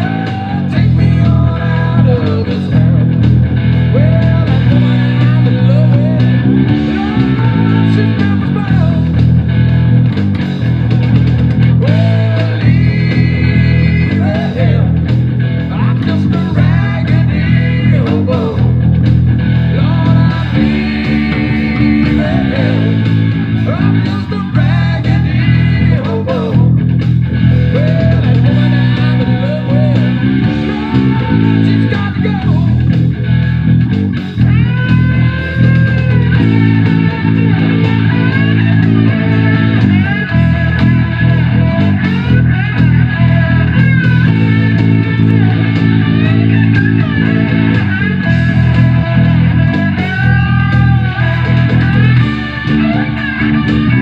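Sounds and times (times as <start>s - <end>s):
electric bass fingerstyle: 0.0s - 54.0s
rock music: 0.0s - 54.0s.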